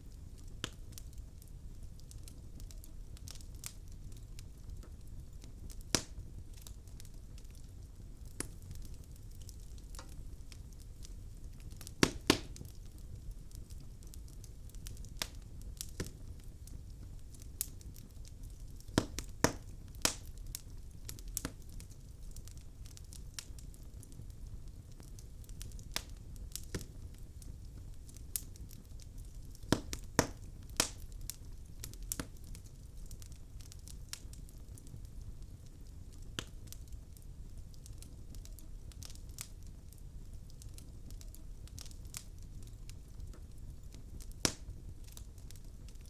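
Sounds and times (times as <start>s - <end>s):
low rumble of flames: 0.0s - 46.0s
wood fire crackling and popping: 0.0s - 46.0s.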